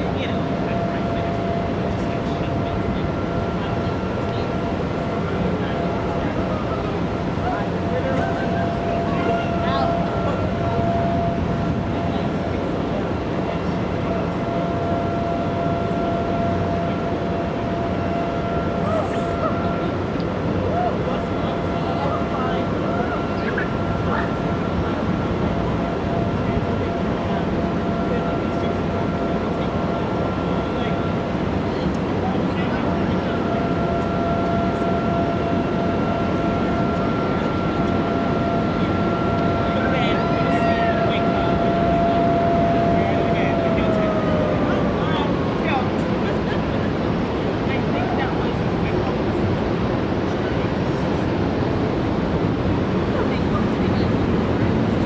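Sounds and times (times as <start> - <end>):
civil defense siren steady tone: 0.0 - 55.0.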